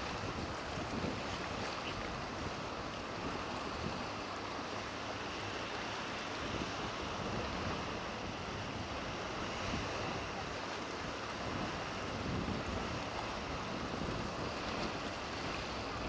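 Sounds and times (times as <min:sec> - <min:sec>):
surf: 0:00.0 - 0:16.0
wind rumbling on microphone: 0:00.0 - 0:16.0.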